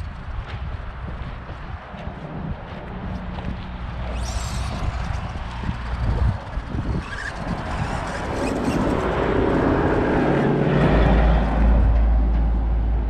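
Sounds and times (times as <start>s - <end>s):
road vehicle passing: 0.1s - 13.0s.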